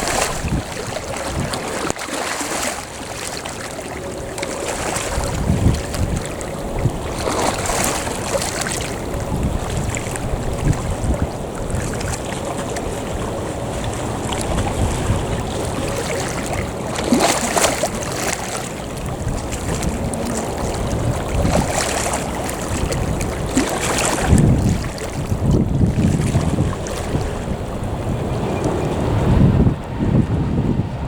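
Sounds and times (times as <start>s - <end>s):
sea waves washing ashore: 0.0s - 31.0s
wind buffeting microphone: 0.0s - 31.0s.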